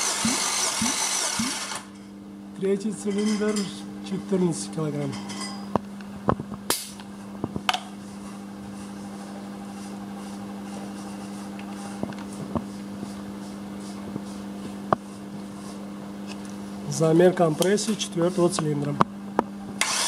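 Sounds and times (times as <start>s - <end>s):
ventilation fan humming: 0.0s - 20.0s.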